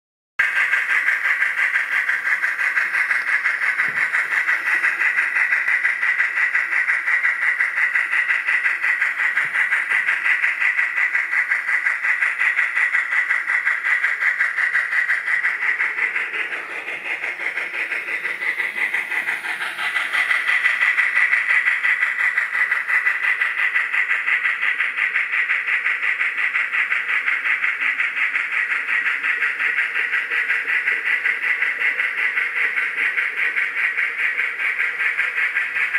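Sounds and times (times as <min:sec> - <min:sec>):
model steam locomotive chuffing: 0:00.4 - 0:35.9.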